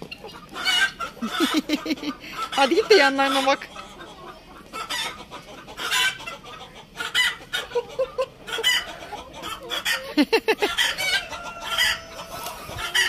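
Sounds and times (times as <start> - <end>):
chickens and guinea fowl calling: 0.0 - 13.0.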